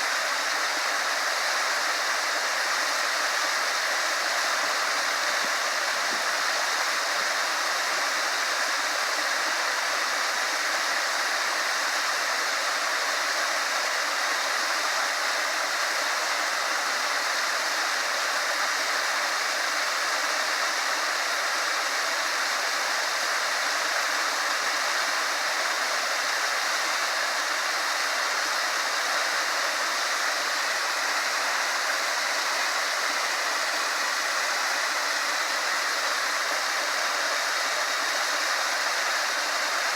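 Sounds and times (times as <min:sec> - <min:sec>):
waterfall pouring into lake: 0:00.0 - 0:39.9.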